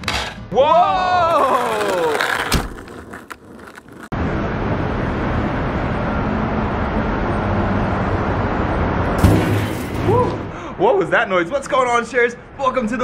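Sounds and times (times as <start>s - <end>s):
city traffic rumble: 1.0s - 13.0s.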